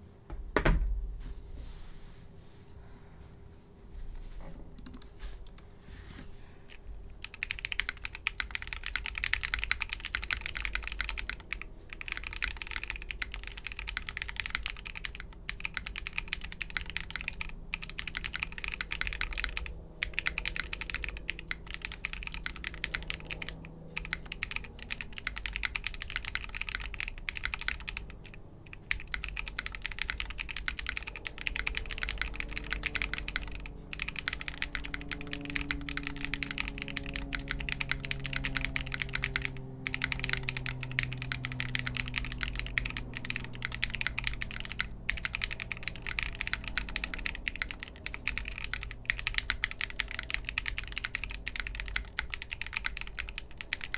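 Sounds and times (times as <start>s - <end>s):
mechanical keyboard typing: 4.8s - 5.6s, 7.2s - 53.9s.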